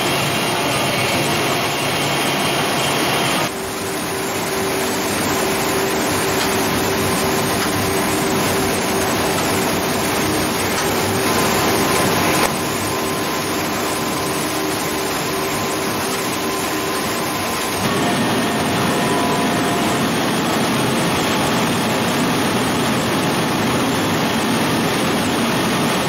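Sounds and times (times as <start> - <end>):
processing machinery running: 0.0 - 26.0.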